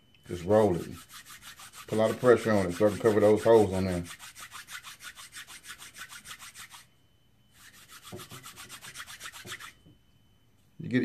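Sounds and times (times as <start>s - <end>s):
rapid rhythmic rubbing strokes: 0.3s - 6.9s, 7.5s - 9.8s.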